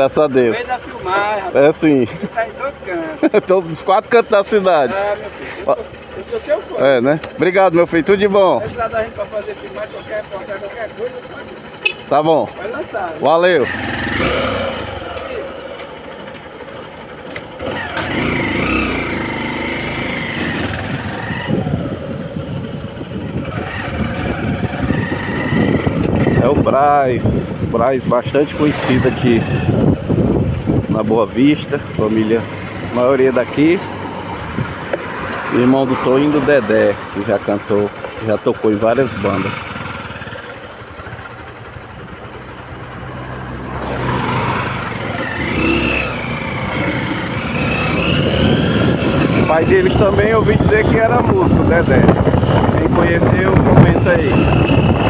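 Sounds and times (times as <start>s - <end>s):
motorcycle engine speeding up: 0.0s - 55.0s.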